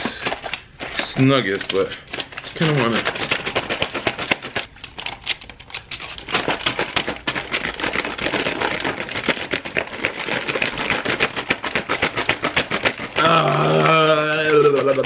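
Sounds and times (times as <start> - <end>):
foil and plastic wrap crinkling: 0.0 - 15.0.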